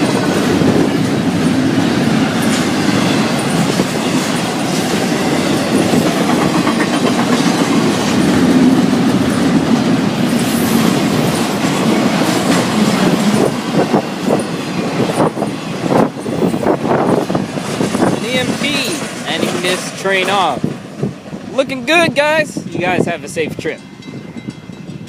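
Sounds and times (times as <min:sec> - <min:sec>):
clickety-clack over rail joints: 0:00.0 - 0:25.0
train wheels rumbling on rails: 0:00.0 - 0:25.0.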